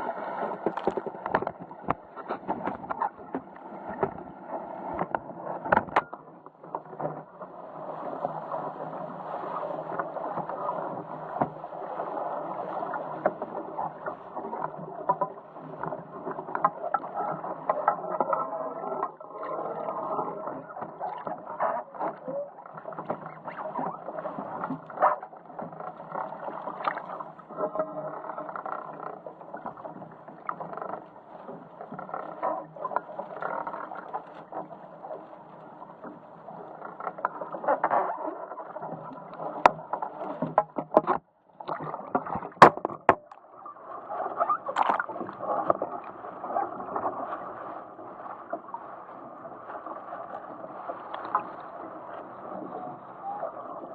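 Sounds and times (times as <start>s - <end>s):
water splashing against boat hull: 0.0s - 53.9s.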